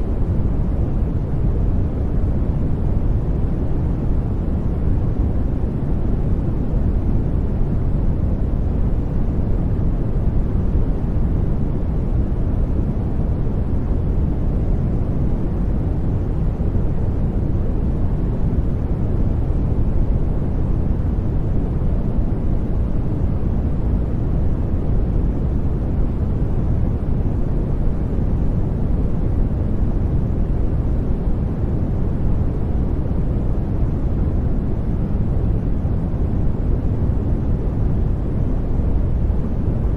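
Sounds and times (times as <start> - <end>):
low white noise hiss: 0.0 - 39.9.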